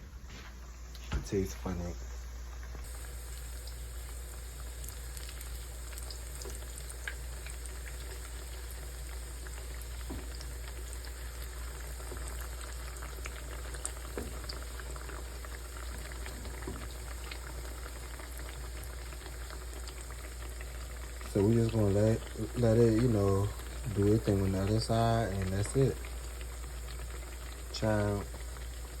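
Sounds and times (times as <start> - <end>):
plantain frying in oil: 2.6 - 29.0.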